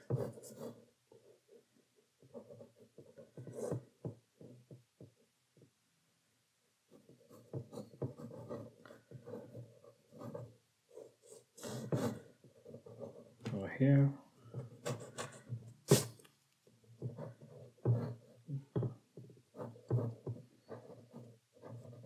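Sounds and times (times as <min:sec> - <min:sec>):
pencil scratching on rough paper: 0:00.0 - 0:04.8, 0:06.9 - 0:13.5, 0:14.4 - 0:22.0.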